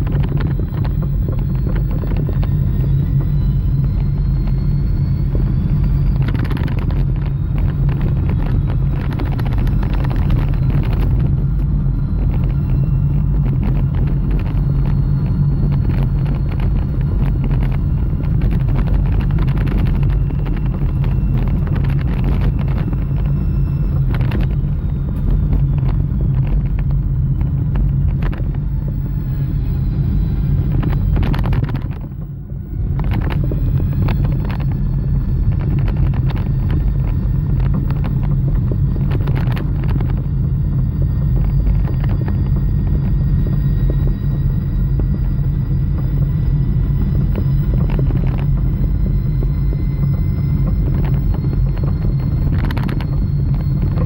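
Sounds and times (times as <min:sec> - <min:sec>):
car driving rumble: 0:00.0 - 0:54.0.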